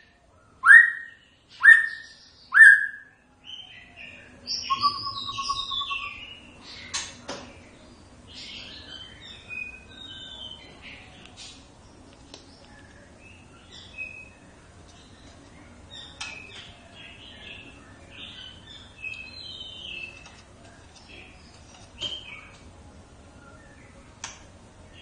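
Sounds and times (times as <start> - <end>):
bird singing sharp notes and warbles: 0.0 - 25.0.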